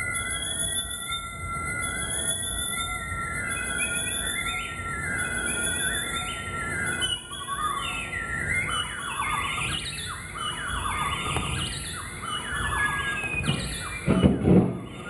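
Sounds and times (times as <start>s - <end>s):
squealing electronic tones: 0.0s - 15.0s.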